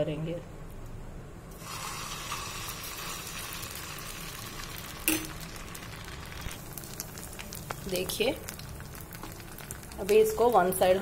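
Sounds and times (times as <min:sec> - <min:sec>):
batter sizzling in hot oil: 0:01.5 - 0:11.0.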